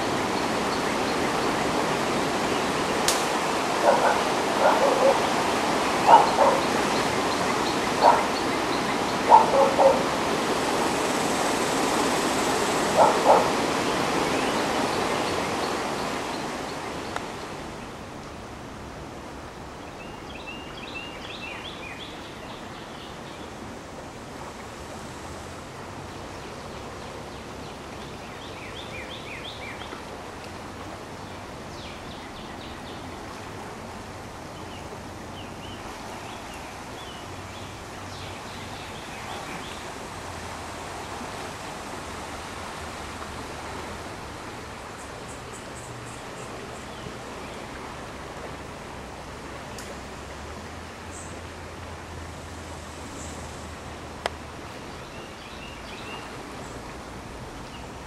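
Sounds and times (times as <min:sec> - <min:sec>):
floodwater rushing: 0:00.0 - 0:20.8, 0:23.1 - 0:58.0.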